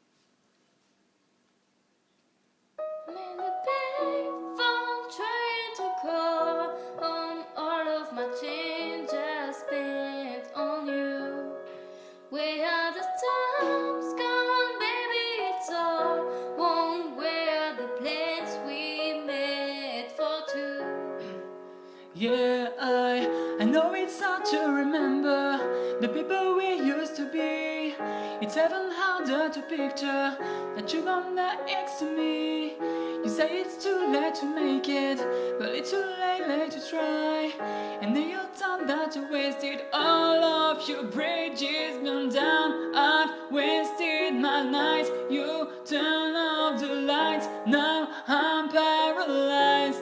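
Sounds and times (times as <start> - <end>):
piano accompaniment: 2.8 - 50.0
person singing: 3.1 - 50.0.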